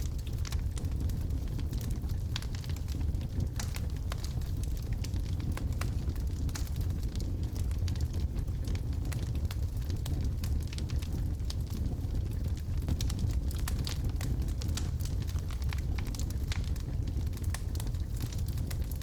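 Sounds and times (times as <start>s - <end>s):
logs burning with crackles: 0.0s - 19.0s.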